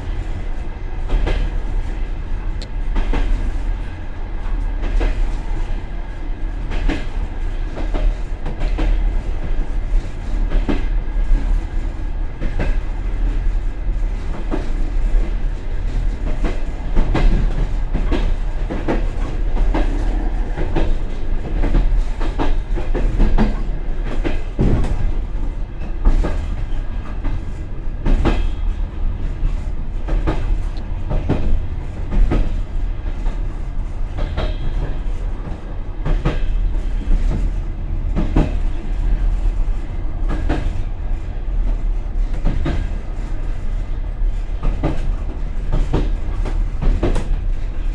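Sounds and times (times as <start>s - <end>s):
train running low rumble: 0.0s - 47.9s.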